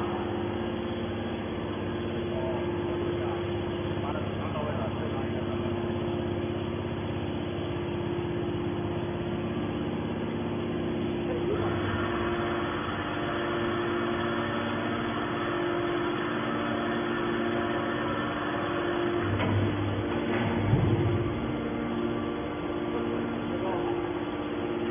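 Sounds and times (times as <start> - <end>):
baler machine hum: 0.0 - 24.9.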